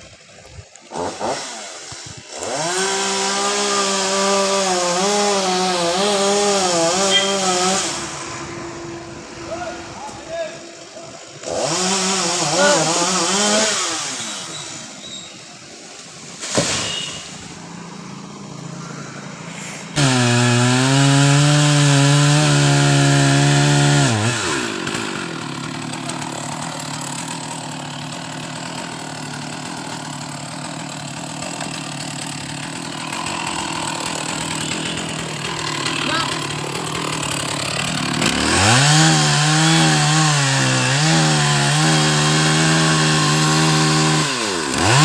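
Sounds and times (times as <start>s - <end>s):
chainsaw engine revving: 0.7s - 10.2s, 10.8s - 15.3s, 16.0s - 45.0s.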